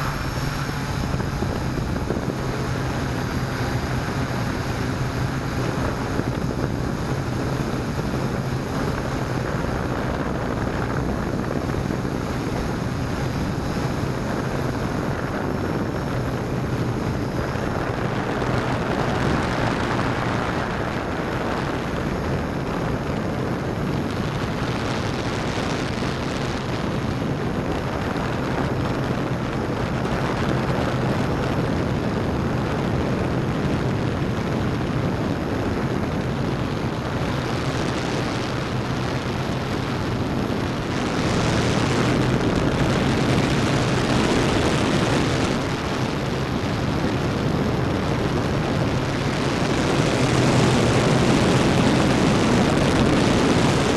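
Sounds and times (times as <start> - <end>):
drone propellers humming: 0.0 - 53.9.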